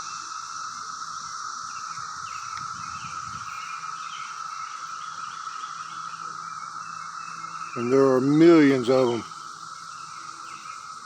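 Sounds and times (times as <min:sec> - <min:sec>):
cicadas droning: 0:00.0 - 0:11.0
high cicada chirps: 0:00.0 - 0:11.0.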